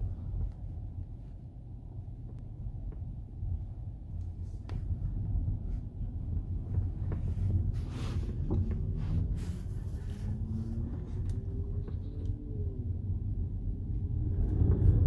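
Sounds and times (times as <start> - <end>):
low rumble of moving car: 0.0 - 15.0.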